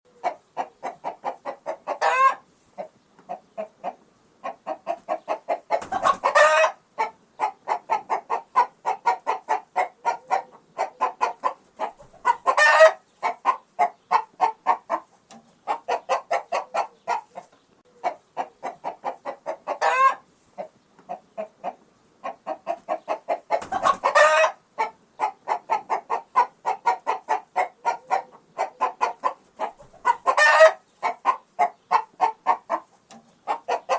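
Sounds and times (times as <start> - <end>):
chicken calling: 0.1 - 33.9
chicken clucking: 0.1 - 33.9.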